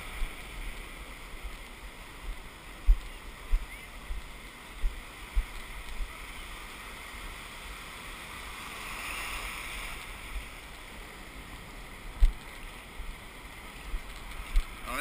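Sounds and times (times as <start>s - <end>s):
surf hissing around kayak: 0.0s - 15.0s.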